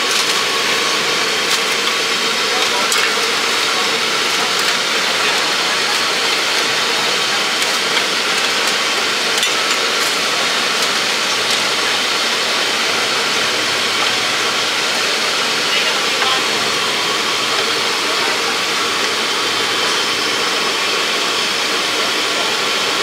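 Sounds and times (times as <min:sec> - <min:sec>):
deep fryer hissing: 0:00.0 - 0:23.0
faint background voices: 0:01.7 - 0:23.0.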